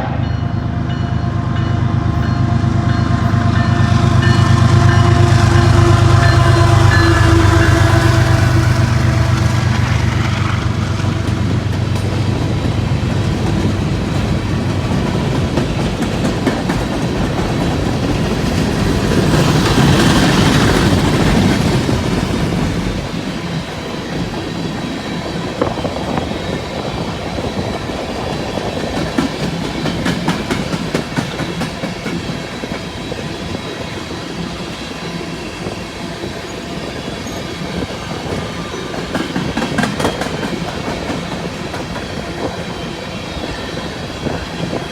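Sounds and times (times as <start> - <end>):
diesel locomotive engine drone: 0.0 - 44.9
train wheels clacking over rail joints: 3.6 - 34.4, 36.8 - 44.9.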